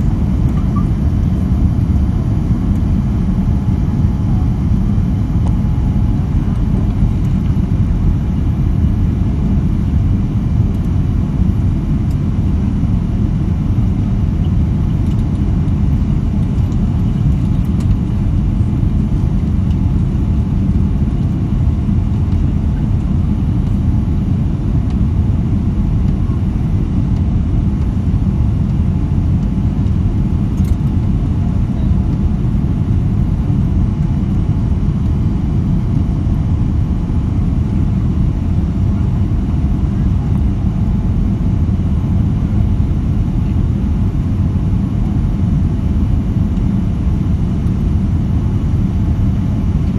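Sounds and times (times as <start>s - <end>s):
low rumble of jet engines and airflow: 0.0s - 49.9s.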